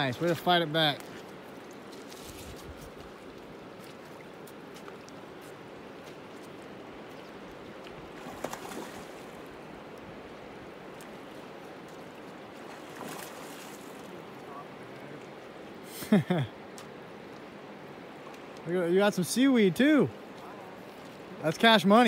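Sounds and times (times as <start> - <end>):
river current lapping on shore: 0.0 - 22.0.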